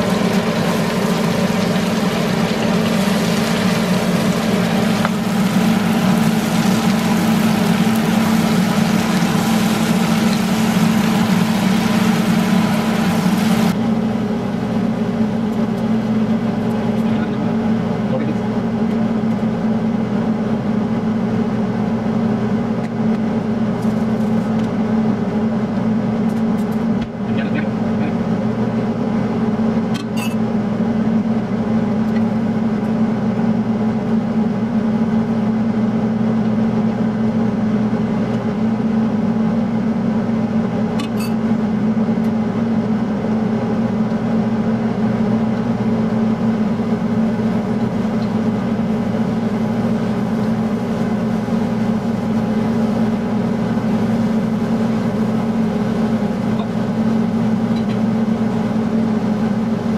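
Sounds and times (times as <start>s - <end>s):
exhaust fan humming: 0.0s - 59.9s.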